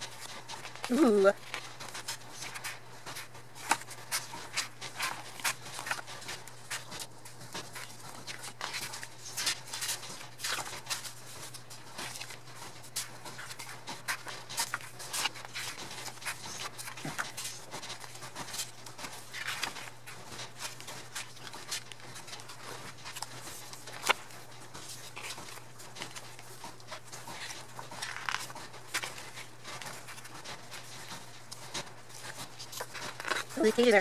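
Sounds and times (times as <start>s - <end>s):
paper pages rustling: 0.0s - 34.0s.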